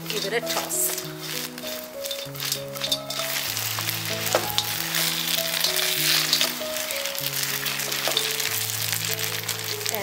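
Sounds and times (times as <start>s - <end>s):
food sizzling in a wok: 0.0s - 10.0s
spatula stirring and tossing: 0.0s - 10.0s.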